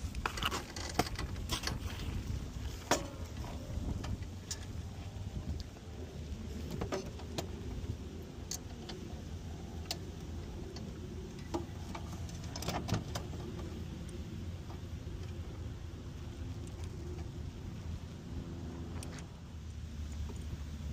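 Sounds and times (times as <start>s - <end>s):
steady low rumble: 0.0s - 20.9s.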